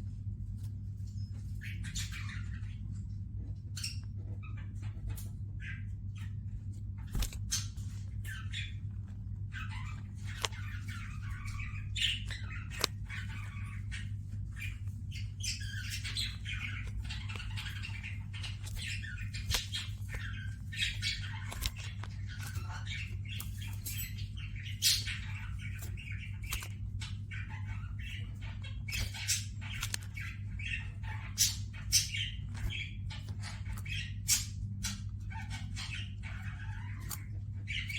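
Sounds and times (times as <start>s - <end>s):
birds chirping and chattering: 0.0s - 37.9s
low steady hum: 0.0s - 37.9s.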